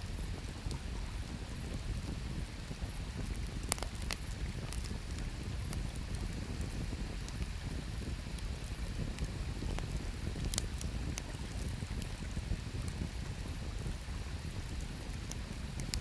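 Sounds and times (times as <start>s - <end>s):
wood fire crackling and popping: 1.6s - 16.0s.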